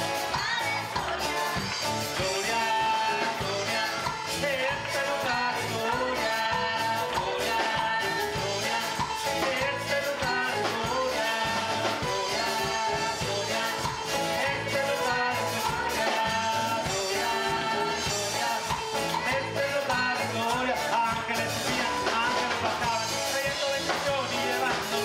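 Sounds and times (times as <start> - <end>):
live band playing: 0.0 - 25.0
man singing into a microphone: 2.1 - 25.0.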